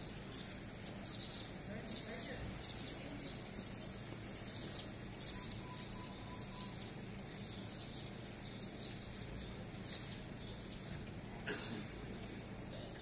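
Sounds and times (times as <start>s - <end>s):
low background hum: 0.0s - 13.0s
swallows chirping: 0.0s - 13.0s.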